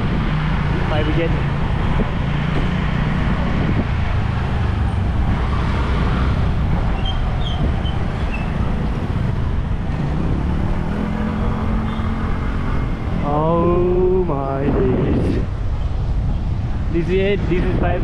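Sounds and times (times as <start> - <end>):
vehicle engines in traffic: 0.0 - 18.0.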